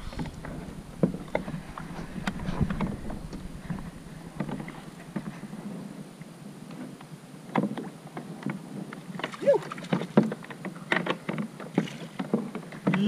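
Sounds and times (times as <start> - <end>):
knocks and taps on kayak hulls: 0.0 - 5.4, 7.5 - 13.0
small waves lapping against kayaks: 0.0 - 13.0.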